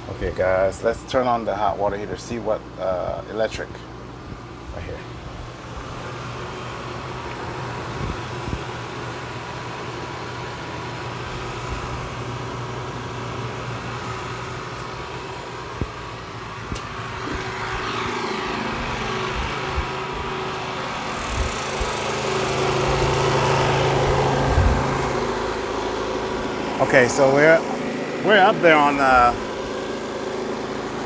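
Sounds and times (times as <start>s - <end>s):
generator engine running: 0.0s - 31.0s.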